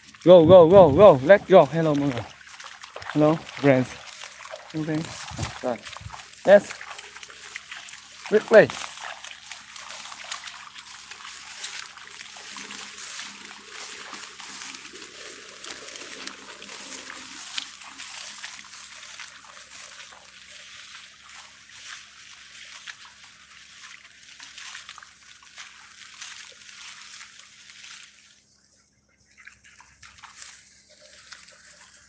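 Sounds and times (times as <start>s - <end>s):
footsteps crunching through straw: 0.0s - 28.6s, 29.9s - 32.0s.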